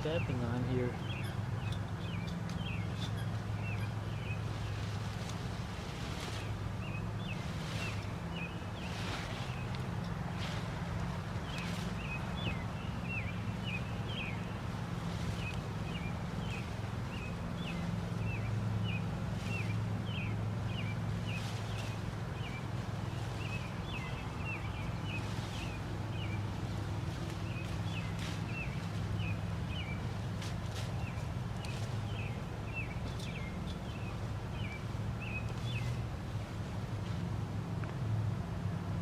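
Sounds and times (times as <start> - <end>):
small birds chirping: 0.0 - 36.1
steady low hum: 0.0 - 39.0.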